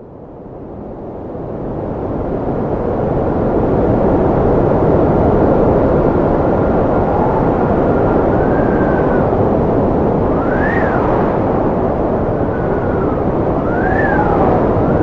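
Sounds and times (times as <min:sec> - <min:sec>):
strong wind rushing and howling: 0:00.0 - 0:15.0.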